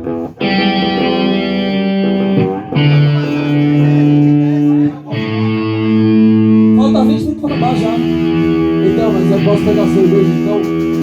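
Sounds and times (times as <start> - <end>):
electric guitar chords: 0.0 - 11.0.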